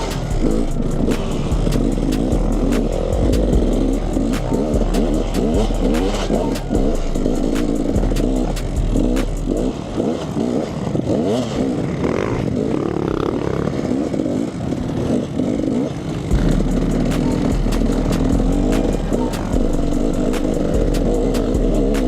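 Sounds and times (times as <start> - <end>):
two-stroke dirt bike revving: 0.0 - 22.0.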